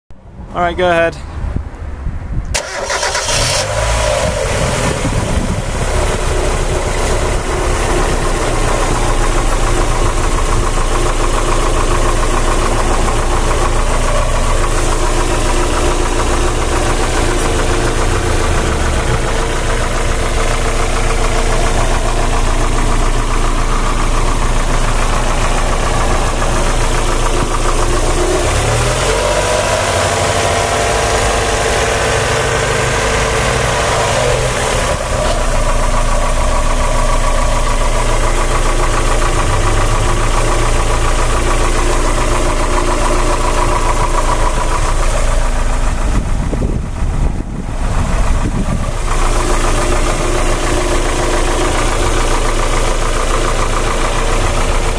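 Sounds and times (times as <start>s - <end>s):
car engine starting and idling: 0.2s - 54.9s
engine knock: 4.3s - 54.9s.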